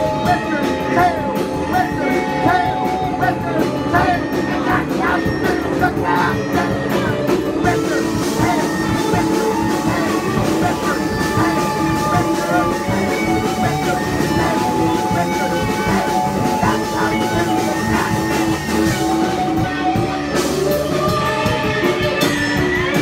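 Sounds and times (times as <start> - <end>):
drums: 0.0 - 23.0
punk band playing live: 0.0 - 23.0.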